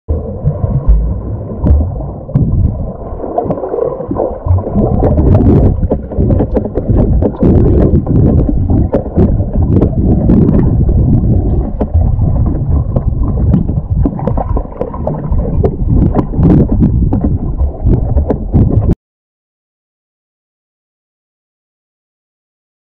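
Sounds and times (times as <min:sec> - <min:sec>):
muffled underwater rushing: 0:00.1 - 0:19.0.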